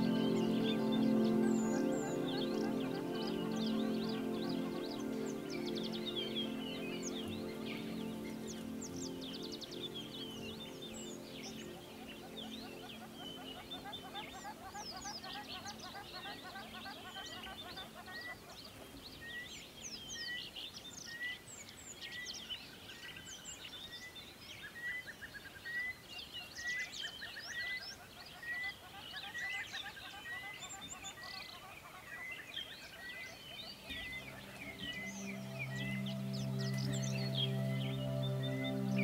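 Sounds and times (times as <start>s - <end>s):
birds chirping and twittering: 0.0s - 39.0s.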